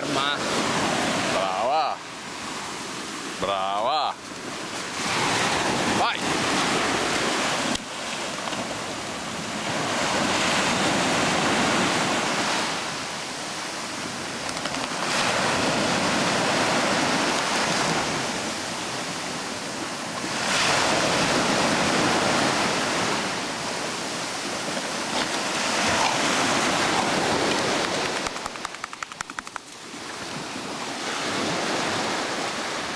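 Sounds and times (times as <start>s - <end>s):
waves breaking on shore: 0.0s - 32.9s.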